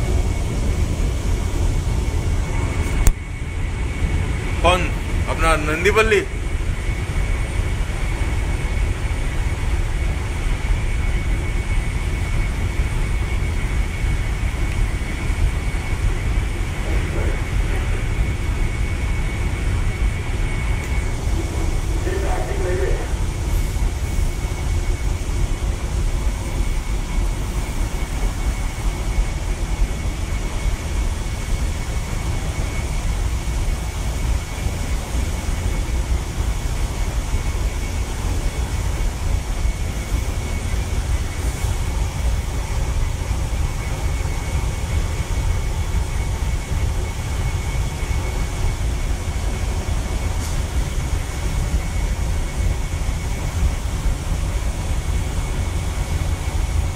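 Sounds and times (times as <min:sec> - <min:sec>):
engine room machinery rumble: 0:00.0 - 0:56.9
faint high whine: 0:00.0 - 0:56.9.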